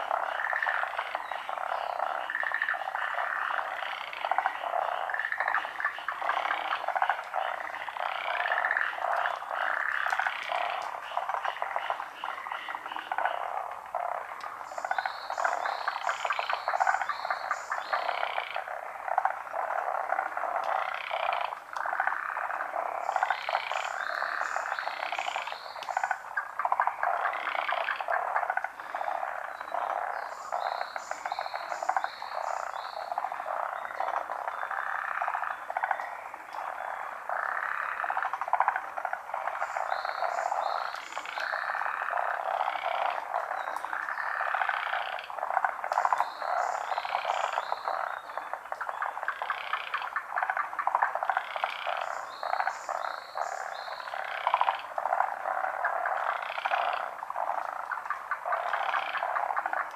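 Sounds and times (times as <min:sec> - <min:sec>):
frogs trilling and croaking: 0:00.0 - 0:59.9.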